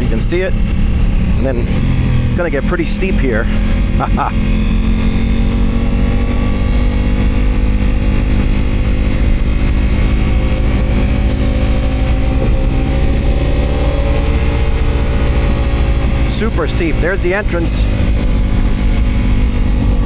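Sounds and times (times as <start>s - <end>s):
motorcycle engine running uphill: 0.0s - 20.0s.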